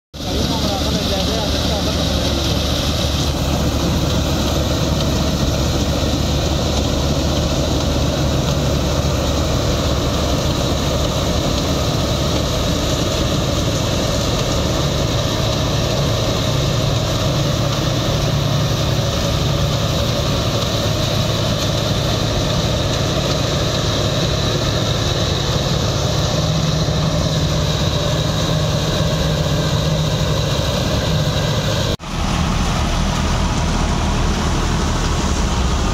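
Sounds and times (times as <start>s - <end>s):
combine harvester running: 0.2s - 35.9s
high machine whine: 0.2s - 35.9s.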